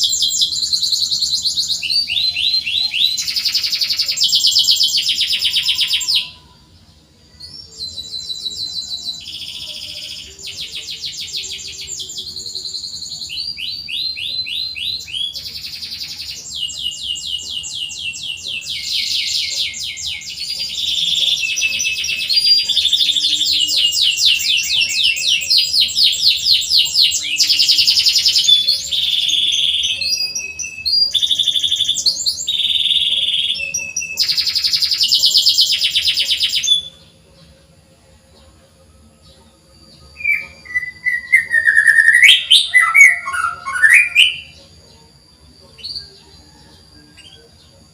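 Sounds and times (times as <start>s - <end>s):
canary singing trills: 0.0s - 47.9s.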